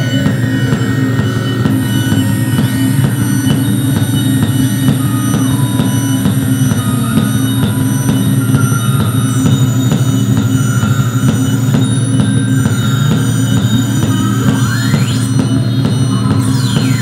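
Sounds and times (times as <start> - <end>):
high-pitched synthesizer whines: 0.0 - 17.0
low synthesizer drone: 0.0 - 17.0
mid synthesizer tones stepping: 0.0 - 17.0.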